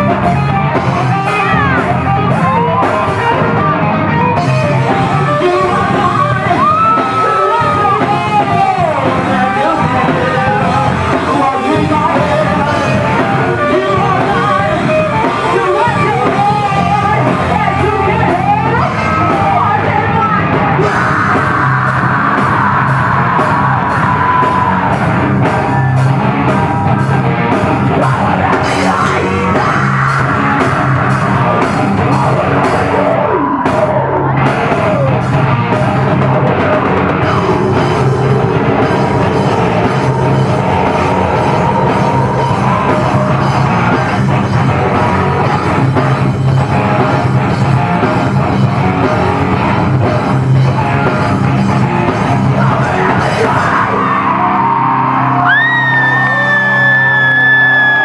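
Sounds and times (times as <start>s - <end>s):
heavy metal band playing live: 0.0s - 58.0s
yelled vocals: 0.0s - 58.0s.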